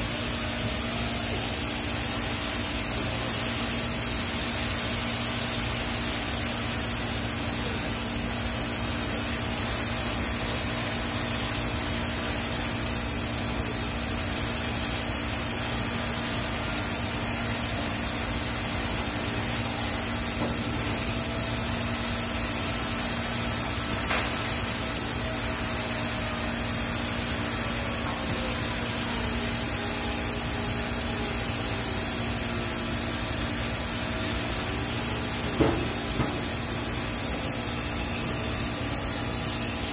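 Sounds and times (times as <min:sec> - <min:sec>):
welding arc hissing and humming: 0:00.0 - 0:39.9.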